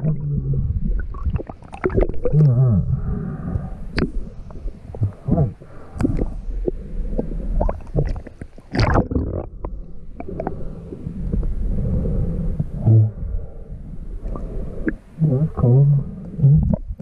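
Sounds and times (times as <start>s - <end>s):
underwater river rumble: 0.0s - 17.0s.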